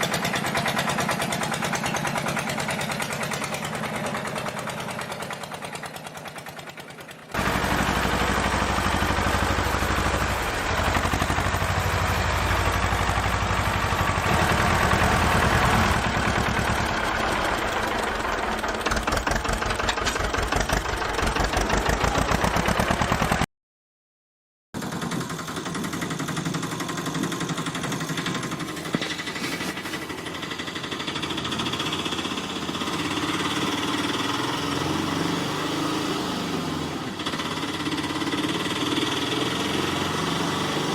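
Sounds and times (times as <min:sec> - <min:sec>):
engine chugging: 0:00.0 - 0:23.5, 0:24.8 - 0:40.9.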